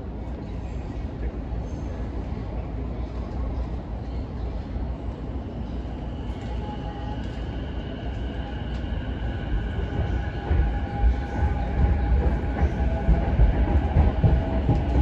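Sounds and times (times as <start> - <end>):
low train rumble: 0.0 - 15.0.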